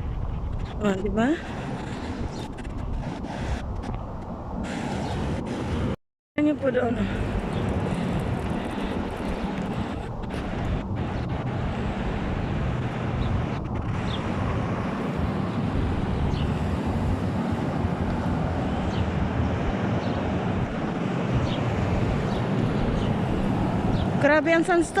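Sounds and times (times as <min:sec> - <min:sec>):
strong wind on microphone: 0:00.0 - 0:25.0.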